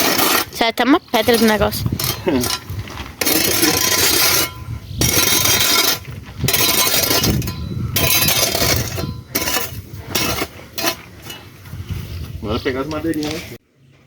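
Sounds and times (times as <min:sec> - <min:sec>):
rough scraping strokes: 0:00.0 - 0:13.6.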